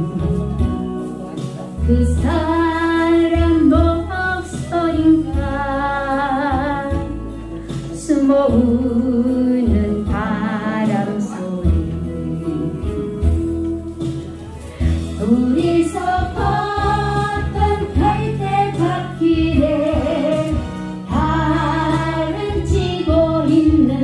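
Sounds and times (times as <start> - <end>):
karaoke backing track: 0.0 - 24.0
woman singing with vibrato: 1.9 - 7.3, 8.0 - 14.1, 14.9 - 24.0.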